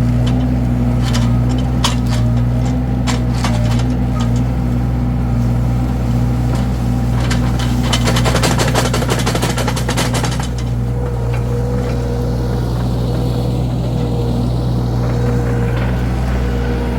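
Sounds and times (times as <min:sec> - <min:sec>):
skid steer engine running: 0:00.0 - 0:16.9.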